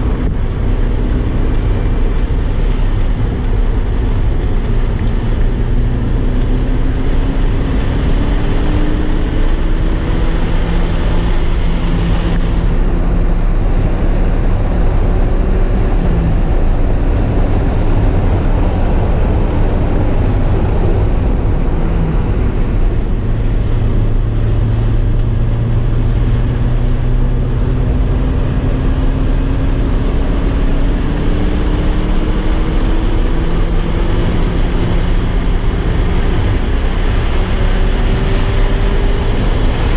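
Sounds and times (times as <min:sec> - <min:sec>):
car engine accelerating: 0:00.0 - 0:39.9
road noise: 0:00.0 - 0:39.9
wind noise: 0:00.0 - 0:39.9.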